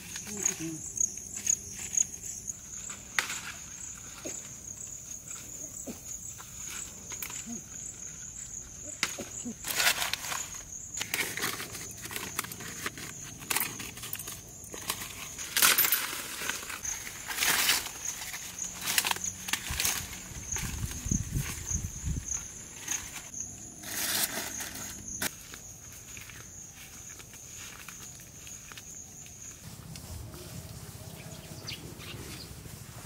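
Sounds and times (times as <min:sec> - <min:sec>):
insects chirring: 0:00.0 - 0:33.0
leaves rustling and crackling: 0:00.0 - 0:33.0.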